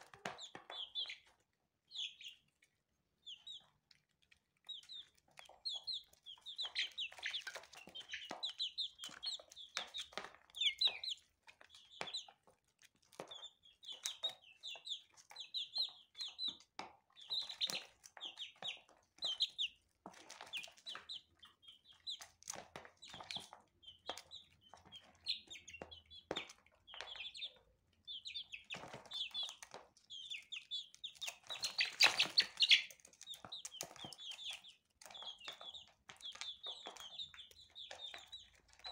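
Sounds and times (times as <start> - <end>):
chicks pecking taps: 0.0 - 2.5, 3.2 - 38.9
chicks peeping: 0.0 - 38.9.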